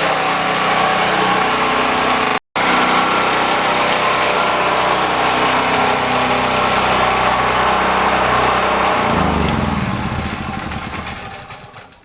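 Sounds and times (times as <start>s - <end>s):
generator engine running: 0.0s - 12.0s
generator winding down: 0.0s - 12.0s.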